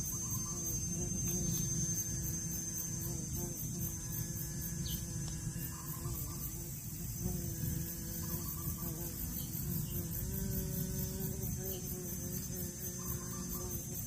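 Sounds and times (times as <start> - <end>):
continuous high whine: 0.0 - 14.0
high insect-like chirping: 0.0 - 14.0.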